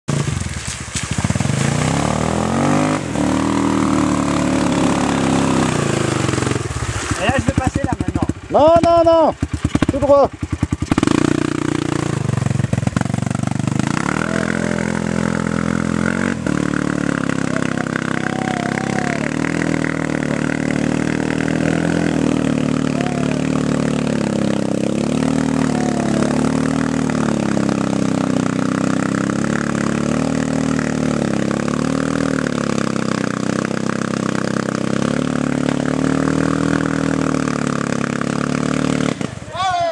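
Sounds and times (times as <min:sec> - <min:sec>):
quad bike engine revving: 0:00.1 - 0:39.9
wheels churning through mud: 0:00.1 - 0:39.9.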